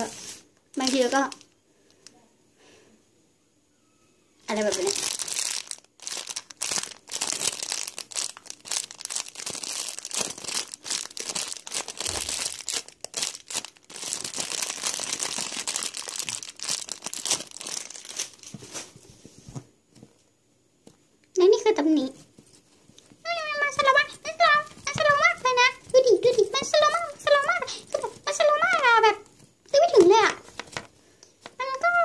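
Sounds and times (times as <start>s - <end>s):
plastic packaging crinkling: 0.0s - 2.1s, 4.4s - 18.9s, 22.4s - 32.0s.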